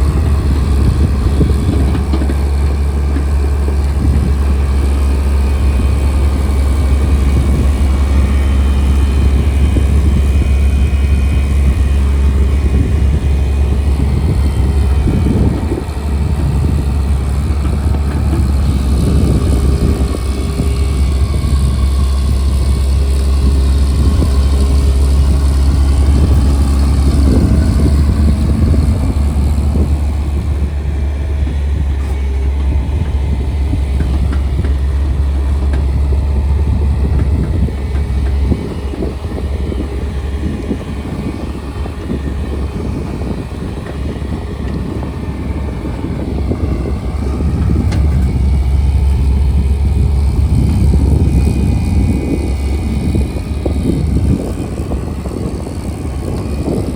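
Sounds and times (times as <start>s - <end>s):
earthmover diesel engine running: 0.0s - 56.9s.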